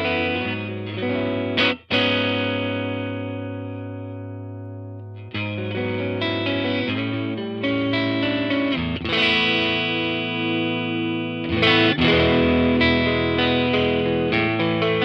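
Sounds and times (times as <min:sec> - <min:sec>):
overdriven electric guitar strumming: 0:00.0 - 0:15.0.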